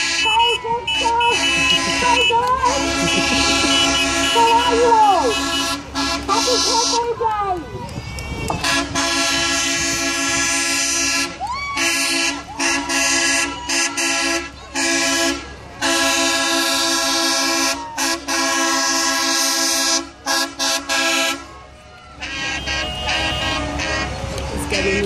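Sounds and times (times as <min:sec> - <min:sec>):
truck air horn blasts: 0:00.0 - 0:07.2, 0:08.4 - 0:21.6, 0:22.2 - 0:25.0.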